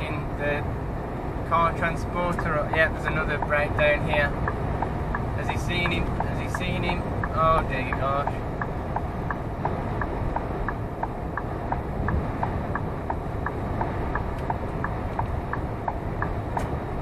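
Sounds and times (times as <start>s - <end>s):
truck engine drone: 0.0s - 17.0s
tyres on wet road: 0.0s - 17.0s
indicator ticking: 2.1s - 17.0s.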